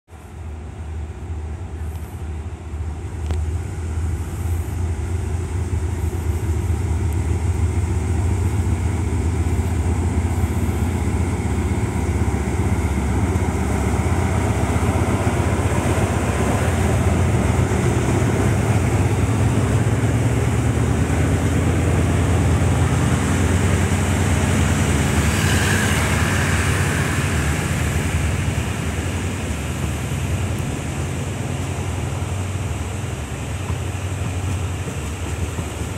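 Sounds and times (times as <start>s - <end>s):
diesel locomotive engine drone: 0.1s - 35.9s
train wheels on rails: 0.1s - 35.9s.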